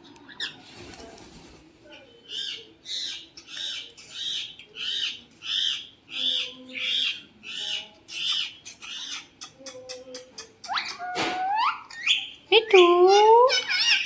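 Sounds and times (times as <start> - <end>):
parrot calling: 2.3 - 14.0.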